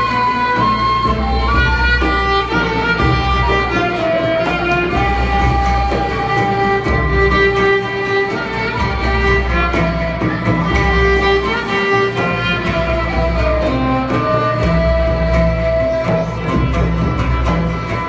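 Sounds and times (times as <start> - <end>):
frame drum pulse: 0.0 - 18.0
kanun and oud: 0.0 - 18.0
ney flute: 0.0 - 18.0
violin: 0.0 - 18.0.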